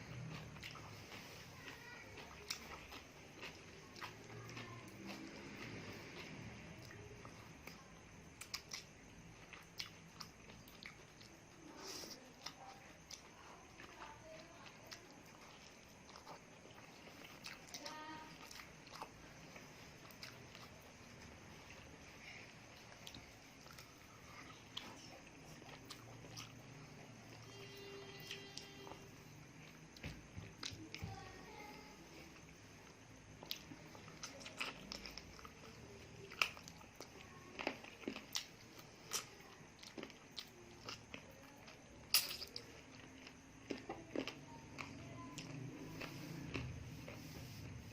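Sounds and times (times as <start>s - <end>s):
person chewing: 0.0s - 27.4s, 28.2s - 30.8s, 32.1s - 47.9s.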